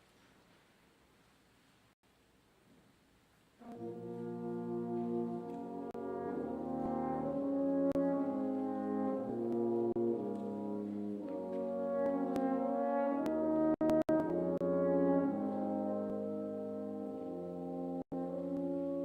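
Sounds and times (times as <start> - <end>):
brass quintet playing chords: 3.6 - 19.0
french horn: 3.6 - 19.0.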